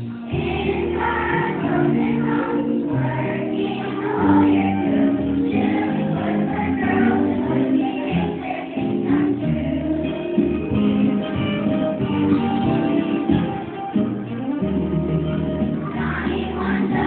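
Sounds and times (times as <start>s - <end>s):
children's choir singing: 0.0s - 13.8s, 15.2s - 17.0s
musical accompaniment: 0.0s - 17.0s.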